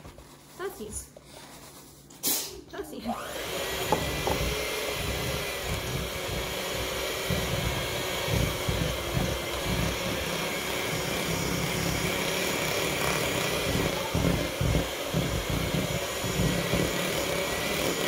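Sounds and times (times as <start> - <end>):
electric mixer running: 3.1 - 18.0.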